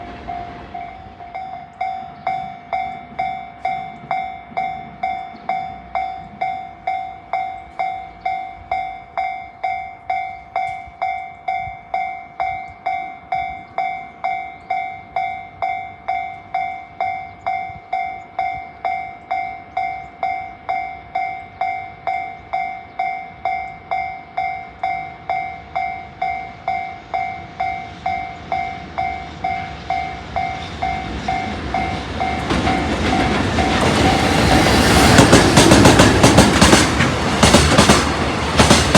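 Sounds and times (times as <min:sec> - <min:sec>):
freight train rumble: 0:00.0 - 0:38.9.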